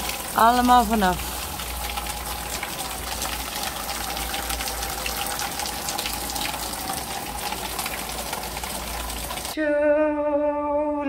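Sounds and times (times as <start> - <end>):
heavy rain pouring: 0.0 - 9.6
raindrops splashing: 0.0 - 9.6.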